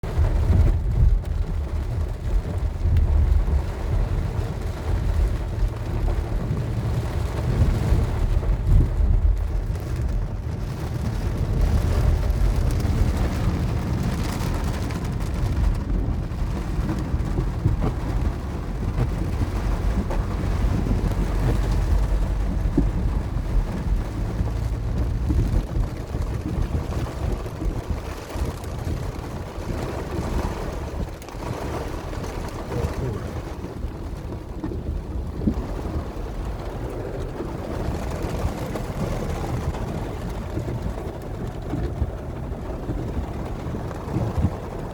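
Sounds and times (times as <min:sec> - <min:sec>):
deep rumble: 0:00.0 - 0:44.9
heavy rain: 0:00.0 - 0:44.9
running floodwater: 0:00.0 - 0:44.9.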